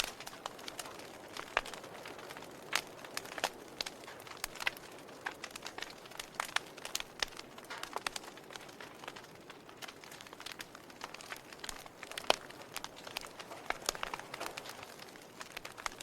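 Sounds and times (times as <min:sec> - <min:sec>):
fire hissing softly: 0:00.0 - 0:16.0
logs crackling in fireplace: 0:00.0 - 0:16.0.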